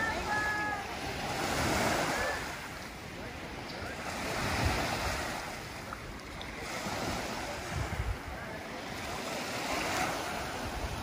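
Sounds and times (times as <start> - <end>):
waves washing onto sand: 0.0 - 11.0
wind buffeting microphone: 0.0 - 11.0.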